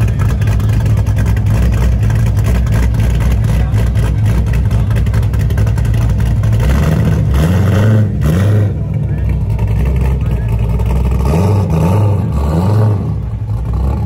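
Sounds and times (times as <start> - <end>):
car exhaust rumbling at idle: 0.0 - 14.0.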